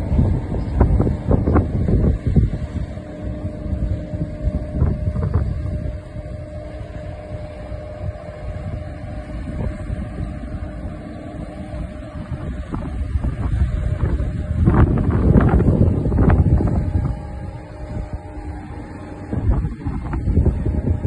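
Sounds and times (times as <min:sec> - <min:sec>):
faint crane engine hum: 0:00.0 - 0:21.0
wind buffeting microphone: 0:00.0 - 0:21.0.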